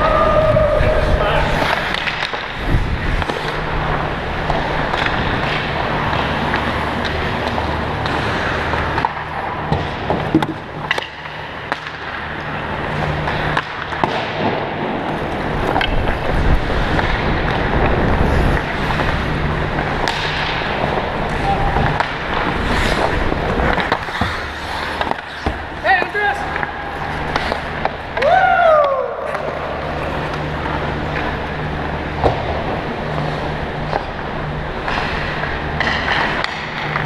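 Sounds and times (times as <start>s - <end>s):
skates scraping on ice: 0.0s - 37.0s
steady low hum: 0.0s - 37.0s
hockey sticks and puck clacking: 1.0s - 37.0s.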